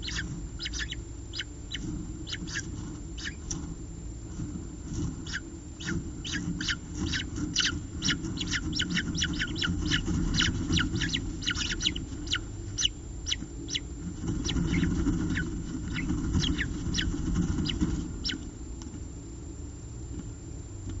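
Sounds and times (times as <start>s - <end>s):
falcon chicks cheeping: 0.0s - 3.6s, 5.2s - 18.5s.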